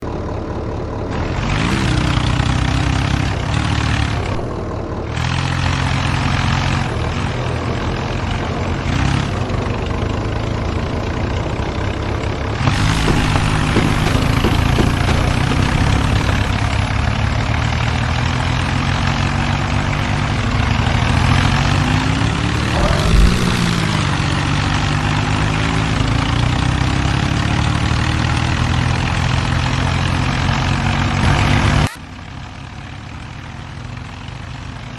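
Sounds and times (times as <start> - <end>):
tractor engines under load: 0.1 - 31.8.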